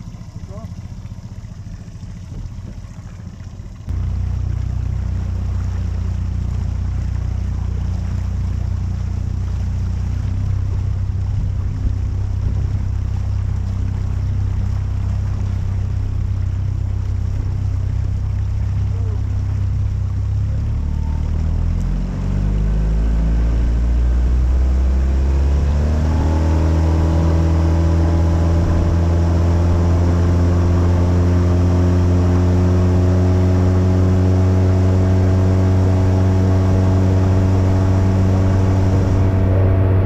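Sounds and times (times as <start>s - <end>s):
outboard motor throttling up: 0.0s - 40.0s
water rushing along hull: 0.0s - 40.0s.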